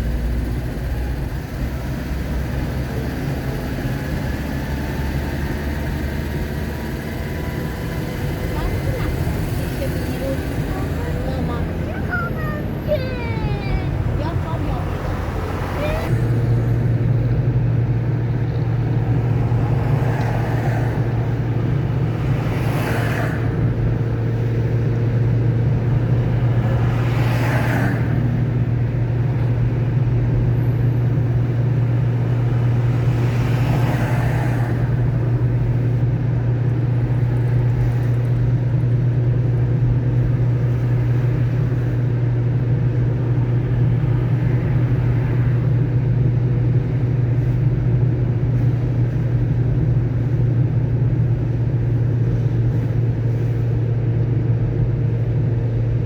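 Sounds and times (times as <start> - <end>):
car engine and tyres droning: 0.0 - 56.0
tyres swishing on wet road: 0.0 - 56.0.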